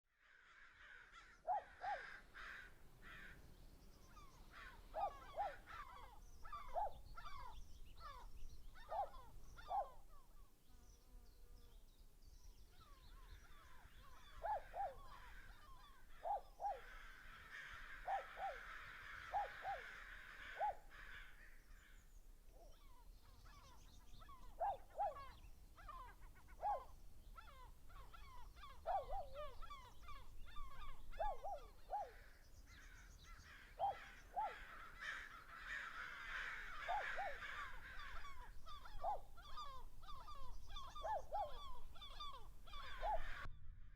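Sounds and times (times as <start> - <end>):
birds twittering chirps: 1.2 - 43.5.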